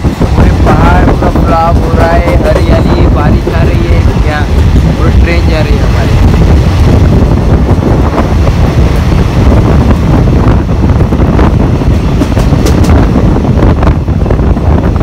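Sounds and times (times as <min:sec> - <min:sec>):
train rumbling along track: 0:00.0 - 0:15.0
wind buffeting microphone: 0:00.0 - 0:15.0.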